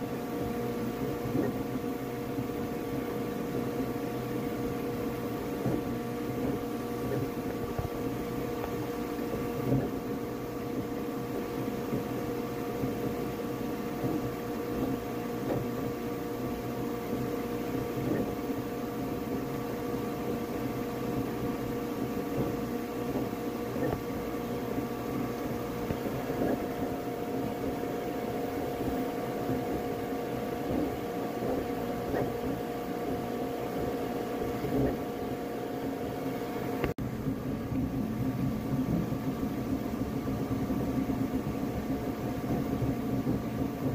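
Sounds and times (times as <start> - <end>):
printer mechanical hum: 0.0 - 43.9.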